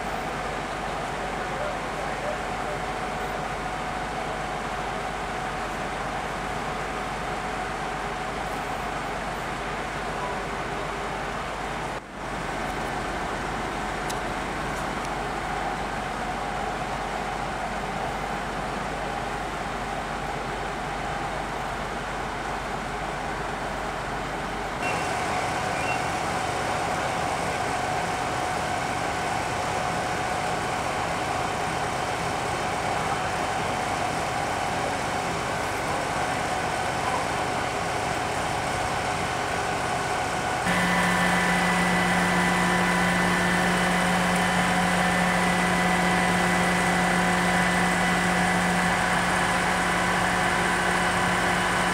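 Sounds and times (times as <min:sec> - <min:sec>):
fire engines droning: 0:00.0 - 0:51.9.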